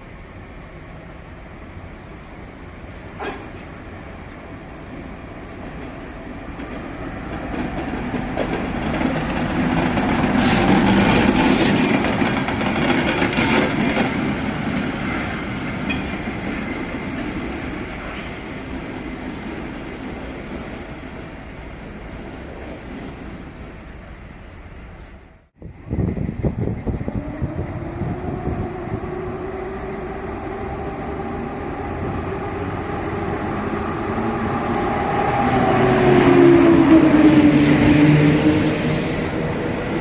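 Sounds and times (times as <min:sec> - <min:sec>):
diesel locomotive passing: 0:00.0 - 0:40.0.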